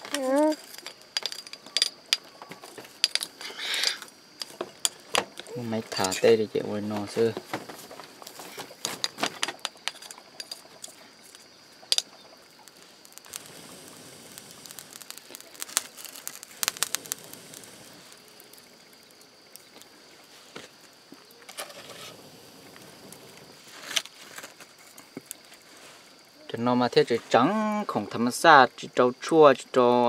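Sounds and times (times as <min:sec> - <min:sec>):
fire snapping: 0:00.0 - 0:25.8
wood fire crackling: 0:00.0 - 0:28.3
faint steady hiss: 0:00.0 - 0:30.0.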